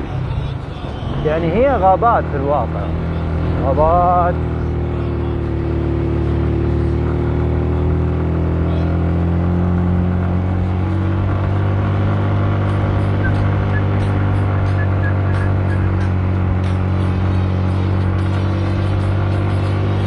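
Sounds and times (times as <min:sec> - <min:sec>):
car engine hum: 0:00.0 - 0:20.0
road noise: 0:00.0 - 0:20.0.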